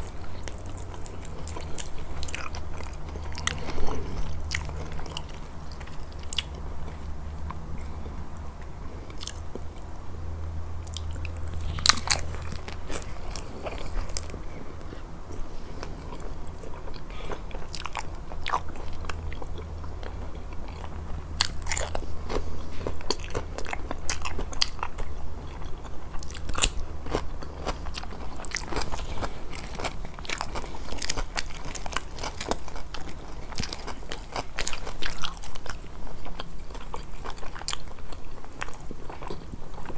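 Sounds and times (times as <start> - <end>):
crunchy bites and chewing: 0.0 - 10.0, 10.8 - 39.9.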